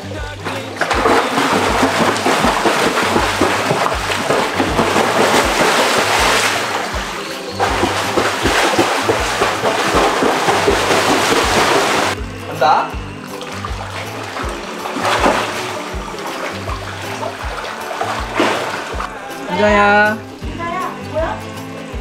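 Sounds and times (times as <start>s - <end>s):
water splashing in a pool: 0.0s - 12.2s, 13.2s - 19.3s
background music with steady beat: 0.0s - 22.0s.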